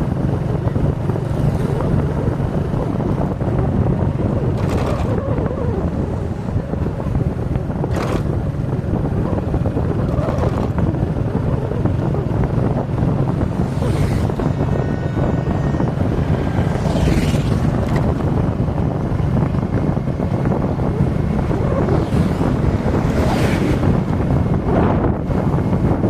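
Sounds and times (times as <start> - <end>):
motorcycle road rumble: 0.0 - 26.0
passing traffic whooshes: 0.0 - 26.0
wind buffeting microphone: 0.0 - 26.0.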